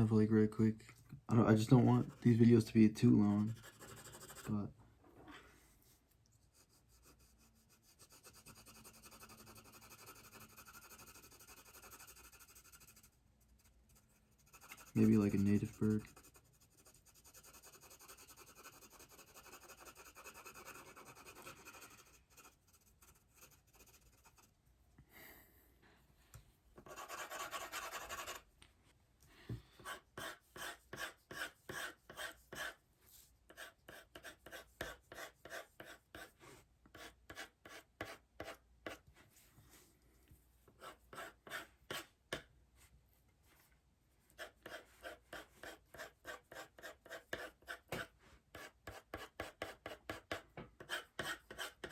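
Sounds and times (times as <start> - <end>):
pencil strokes scratching on paper: 1.8 - 4.7, 5.7 - 24.5, 26.8 - 28.4, 29.8 - 39.4, 40.7 - 42.5, 43.5 - 51.9.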